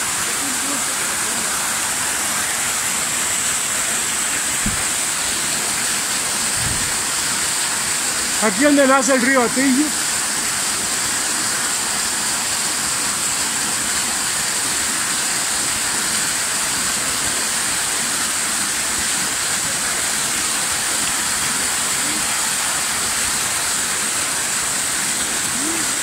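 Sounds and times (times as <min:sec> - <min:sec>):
small waterfall rushing over rocks: 0:00.0 - 0:26.0.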